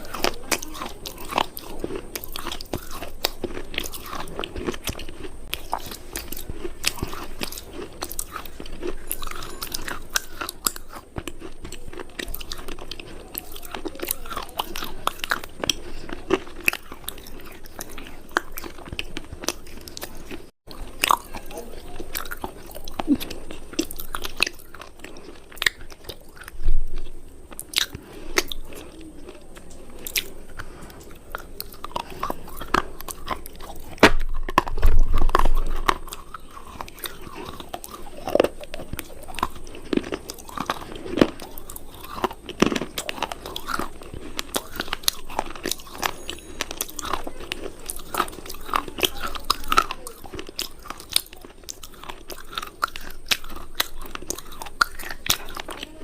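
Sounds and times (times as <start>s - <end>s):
crunching hard cubes: 0.0s - 56.0s.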